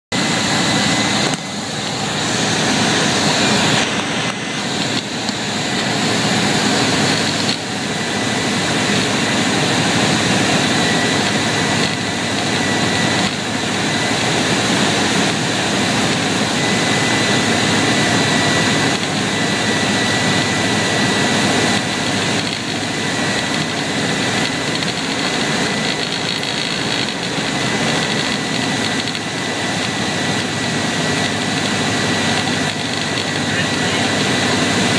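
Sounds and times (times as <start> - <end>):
propeller airplane engine running: 0.1 - 34.9.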